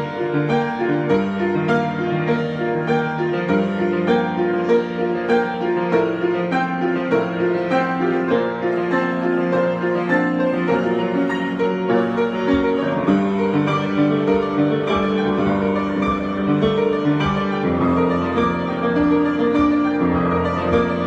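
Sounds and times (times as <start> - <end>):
low piano bass line: 0.0 - 21.0
piano chords and melody: 0.0 - 21.0.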